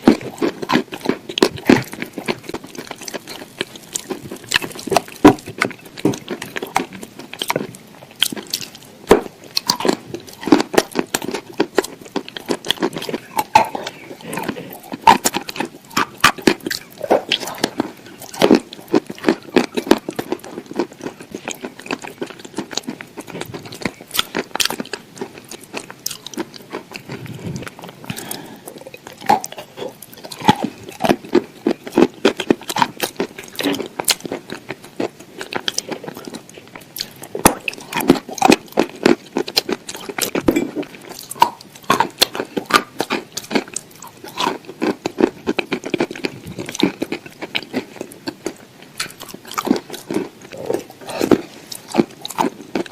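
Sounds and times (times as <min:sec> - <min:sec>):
crunchy chewing: 0:00.0 - 0:52.9.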